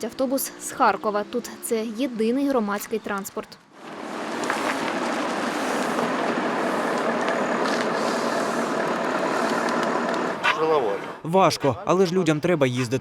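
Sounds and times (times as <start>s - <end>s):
bus engine and road noise: 0.0s - 11.8s.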